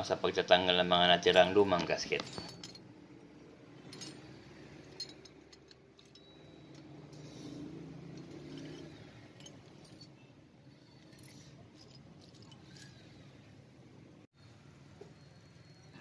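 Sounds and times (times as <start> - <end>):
metallic clinks of engine parts: 1.2 - 13.8, 14.4 - 16.0.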